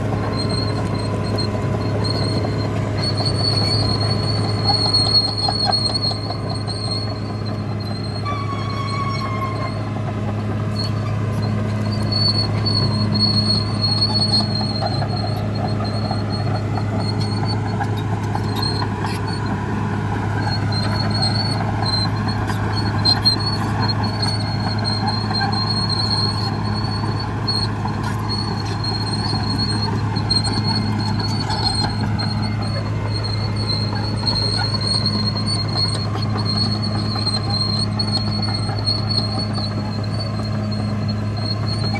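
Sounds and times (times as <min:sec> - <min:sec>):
bulldozer diesel engine running: 0:00.0 - 0:41.9
high squeal from steel tracks: 0:00.0 - 0:41.9.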